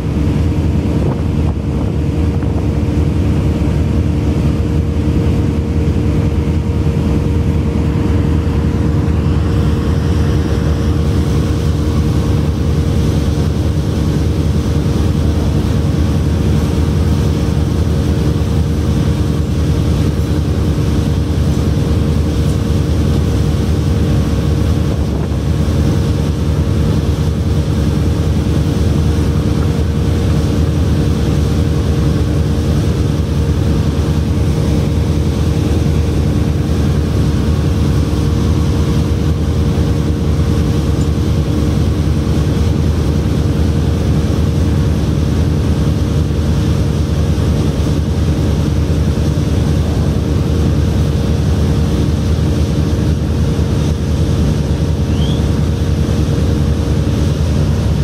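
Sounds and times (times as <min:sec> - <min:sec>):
low machinery drone: 0:00.0 - 0:58.0.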